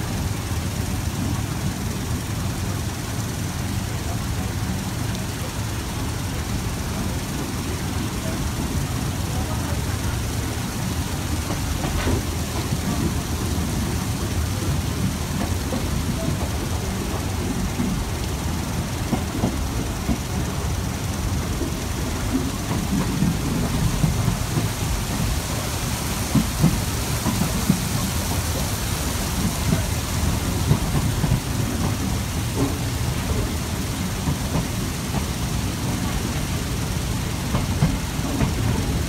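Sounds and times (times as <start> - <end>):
hiss: 0.0 - 39.0
train wheels rumbling on rails: 0.0 - 39.0.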